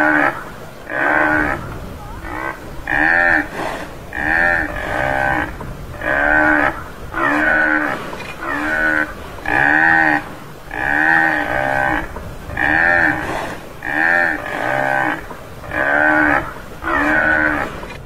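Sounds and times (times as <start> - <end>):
buffalo calling: 0.0 - 18.0.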